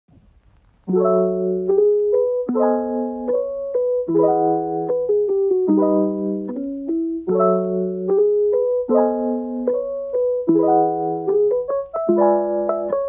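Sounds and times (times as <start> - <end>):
piano playing slow chords: 0.9 - 13.0.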